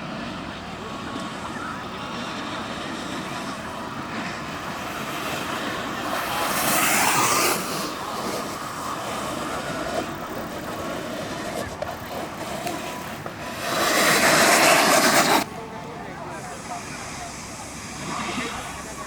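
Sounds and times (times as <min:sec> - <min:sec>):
wheels rolling on pavement: 0:00.0 - 0:19.0.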